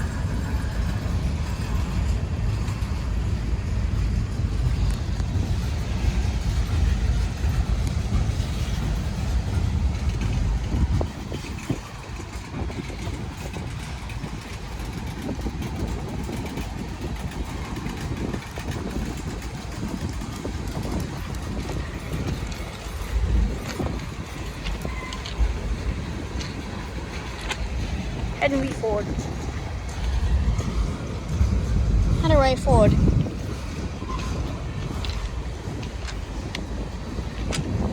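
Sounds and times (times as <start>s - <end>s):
freight train rumbling by: 0.0s - 37.9s
wheels clattering on rails: 0.0s - 37.9s.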